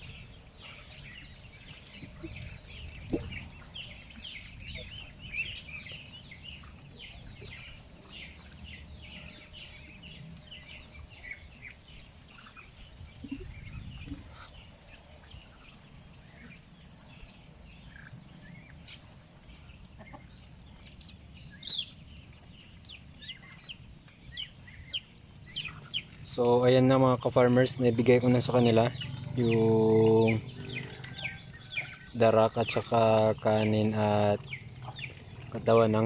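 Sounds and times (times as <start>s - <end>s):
ducks chirping and peeping: 0.0s - 36.0s
low background rumble: 0.0s - 36.0s.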